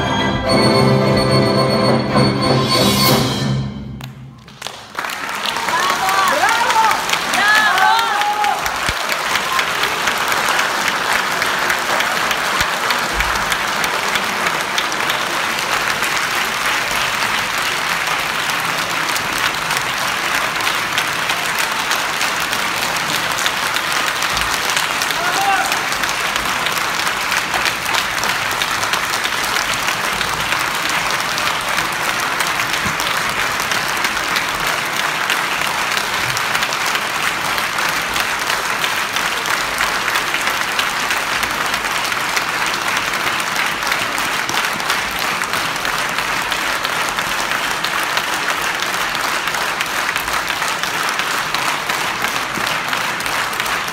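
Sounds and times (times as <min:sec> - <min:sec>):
audience applauding: 0:03.9 - 0:53.9.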